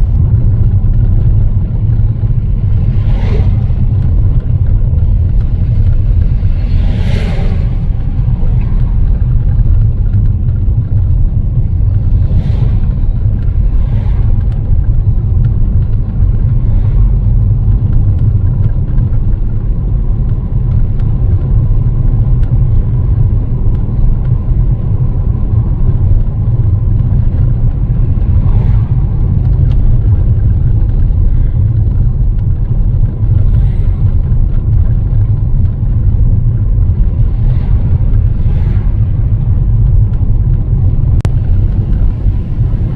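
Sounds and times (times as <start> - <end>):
vehicle road noise rumble: 0.0 - 42.9.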